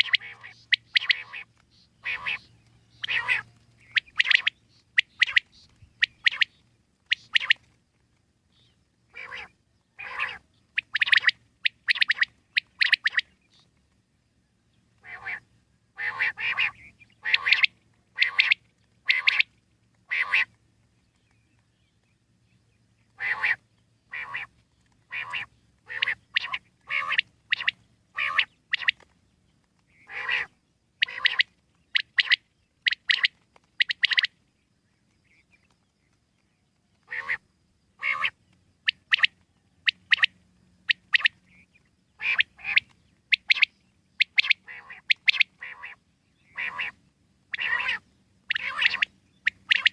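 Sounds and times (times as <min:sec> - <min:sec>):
quail calling: 0:00.0 - 0:07.6, 0:09.1 - 0:13.7, 0:15.0 - 0:20.6, 0:23.1 - 0:29.1, 0:29.9 - 0:34.4, 0:37.0 - 0:49.9.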